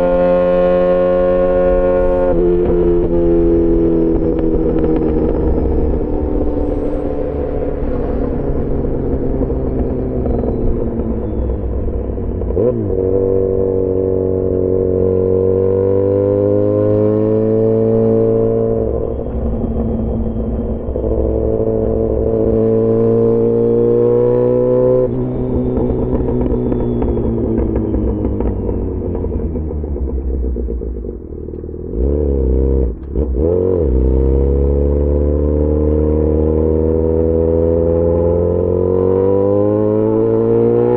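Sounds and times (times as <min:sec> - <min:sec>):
engine revving: 0:00.0 - 0:40.9
motorcycle engine accelerating: 0:00.0 - 0:40.9.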